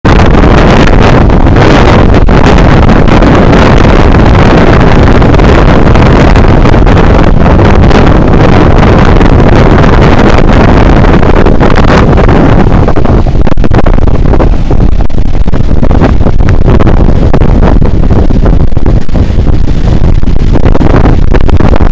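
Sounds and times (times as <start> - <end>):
heavy surf breaking on beach: 0.0 - 21.9
wind blasting microphone: 0.0 - 21.9.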